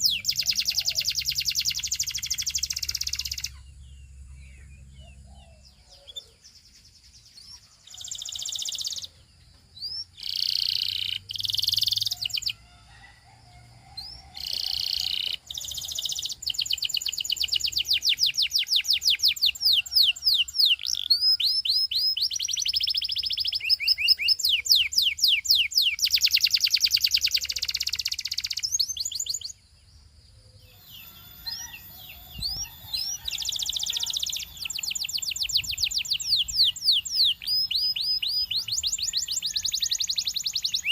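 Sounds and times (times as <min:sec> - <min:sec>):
canary singing with fast trills: 0:00.0 - 0:12.6, 0:13.7 - 0:40.9.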